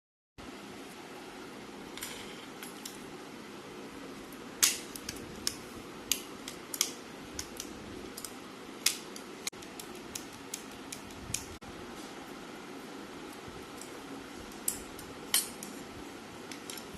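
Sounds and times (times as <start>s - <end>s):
steady low hum: 0.4s - 16.9s.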